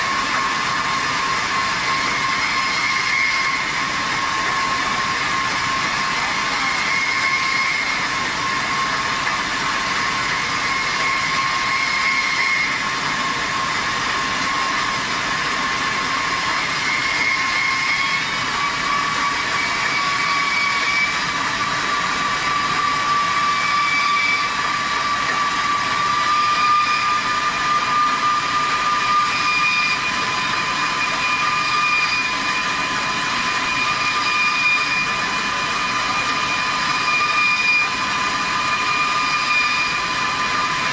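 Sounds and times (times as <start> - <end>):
wire saw grinding through steel: 0.0 - 40.9.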